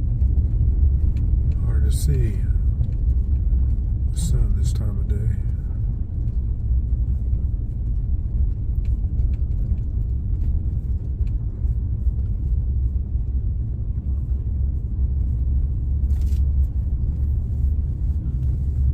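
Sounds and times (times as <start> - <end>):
steady low rumble: 0.0 - 18.9.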